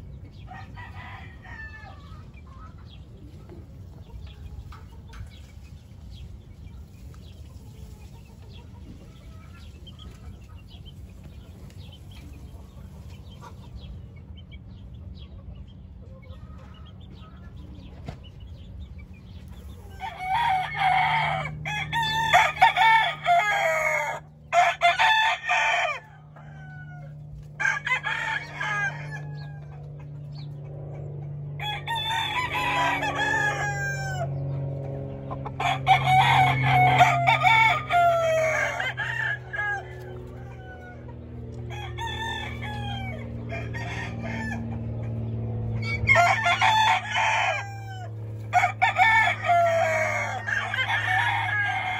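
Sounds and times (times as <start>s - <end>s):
roosters crowing: 0.0s - 51.9s
steady low hum: 0.0s - 51.9s.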